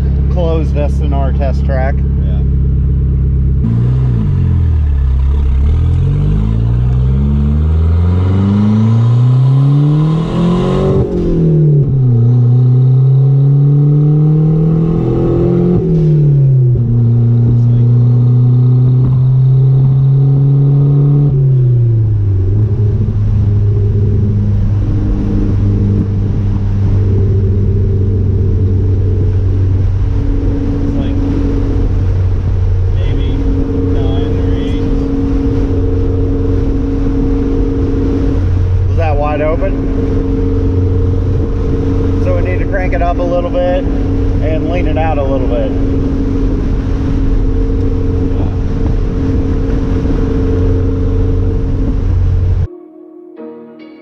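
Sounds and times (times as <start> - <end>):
turbocharged car engine accelerating: 0.0 - 52.7.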